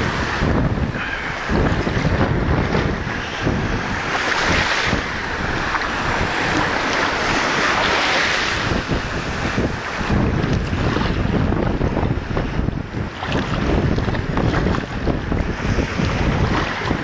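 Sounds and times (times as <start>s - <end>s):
small waves breaking: 0.0s - 17.0s
wind buffeting microphone: 0.0s - 17.0s.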